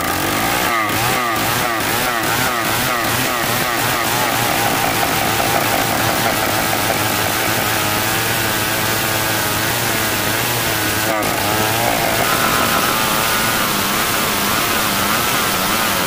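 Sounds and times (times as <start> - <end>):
chainsaw cutting log: 0.0 - 16.0.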